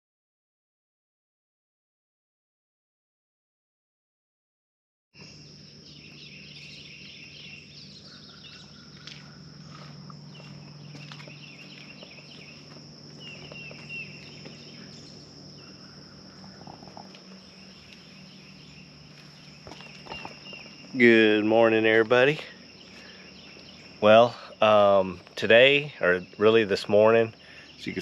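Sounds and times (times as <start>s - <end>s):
birds chirping: 5.2s - 28.0s
insect chorus: 5.2s - 28.0s
low steady hum: 5.2s - 28.0s.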